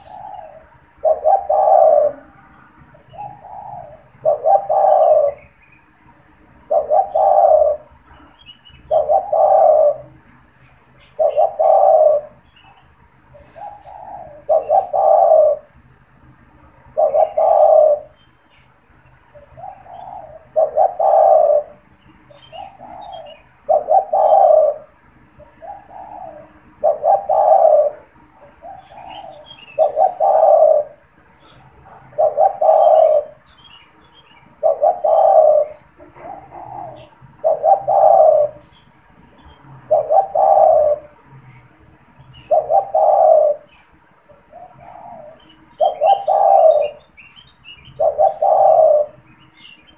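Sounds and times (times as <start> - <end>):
dove cooing: 0.0 - 5.6, 6.6 - 15.9, 16.6 - 18.7, 19.3 - 49.9
small birds chirping: 0.0 - 49.9.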